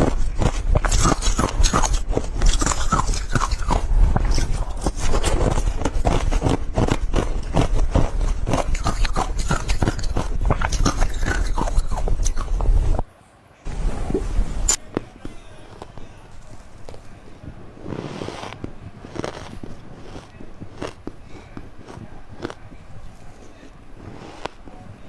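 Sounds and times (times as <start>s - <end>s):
ice crunching while chewed: 0.0s - 13.0s, 13.7s - 25.0s.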